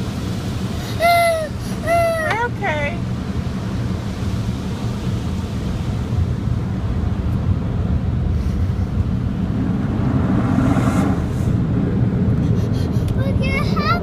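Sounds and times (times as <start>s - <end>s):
car wash equipment rumbling: 0.0s - 14.0s.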